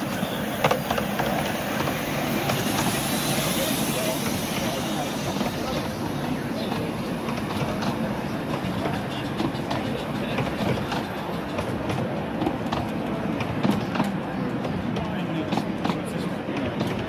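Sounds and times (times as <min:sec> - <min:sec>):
train wagons rumbling past: 0:00.0 - 0:17.0
wheels clicking over rail joints: 0:00.0 - 0:17.0.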